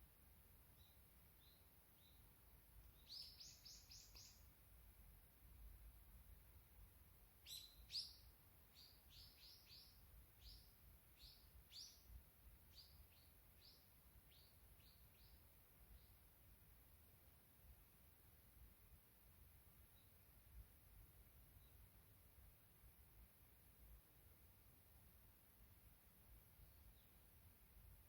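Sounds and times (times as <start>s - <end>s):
songbird chirping: 0.0s - 17.9s, 18.6s - 22.2s, 24.0s - 28.0s.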